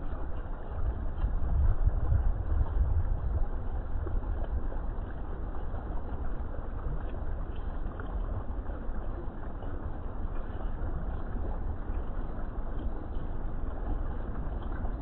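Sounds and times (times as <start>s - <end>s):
fountain water splashing into pond: 0.0s - 15.0s.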